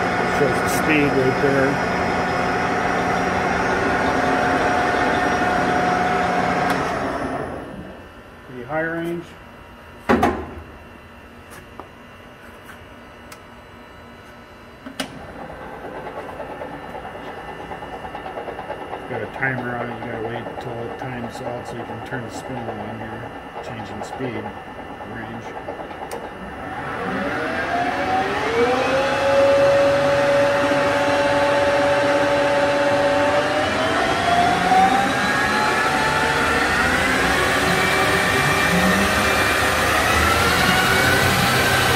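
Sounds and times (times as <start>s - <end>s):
lathe spindle whine: 0.0s - 8.0s, 15.1s - 41.9s.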